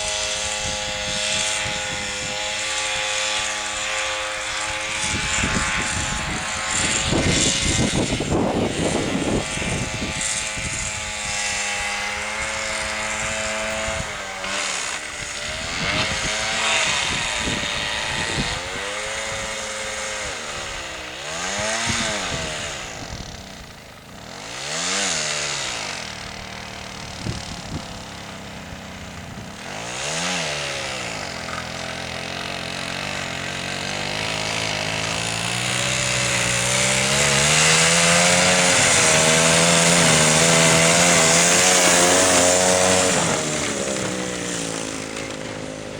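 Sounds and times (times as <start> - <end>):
two-stroke engine revving: 0.0 - 45.9.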